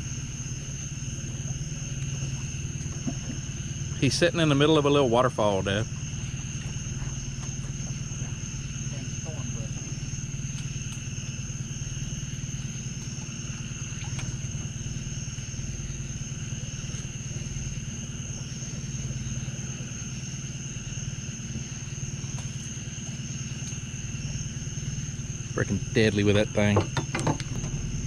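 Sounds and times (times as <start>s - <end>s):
crickets trilling: 0.0s - 28.0s
idling boat motor hum: 0.0s - 28.0s.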